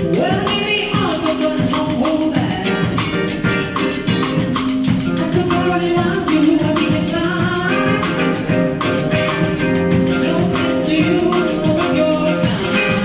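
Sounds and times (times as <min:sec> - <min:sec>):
latin dance music: 0:00.0 - 0:13.0.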